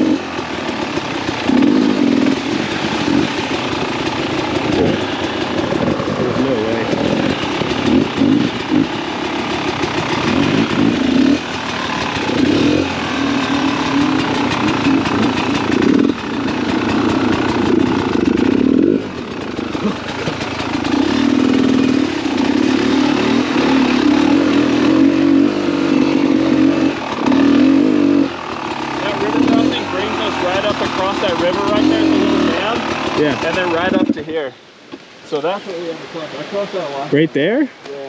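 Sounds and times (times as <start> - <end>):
dirt bike engine revving: 0.0 - 34.4.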